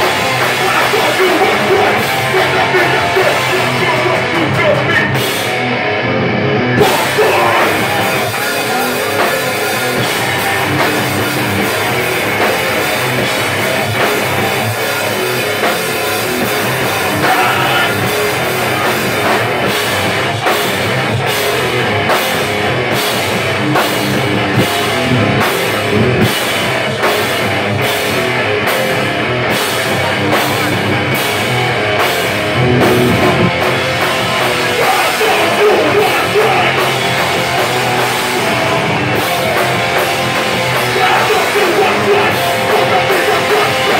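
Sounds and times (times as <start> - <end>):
drum kit: 0.0 - 5.9, 6.7 - 43.9
bass guitar: 0.0 - 43.9
distorted electric guitar: 0.0 - 43.9.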